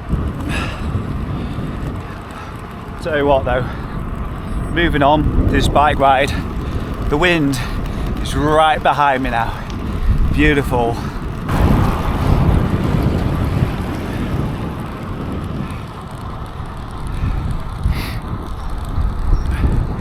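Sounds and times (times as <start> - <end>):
bicycle tyres on tarmac: 0.0 - 20.0
wind rumbling on microphone: 0.0 - 20.0.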